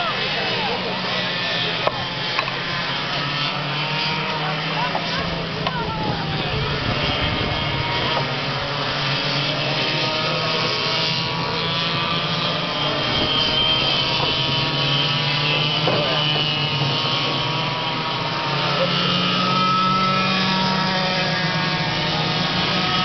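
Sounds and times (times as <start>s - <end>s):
go-kart engines racing: 0.0s - 23.0s.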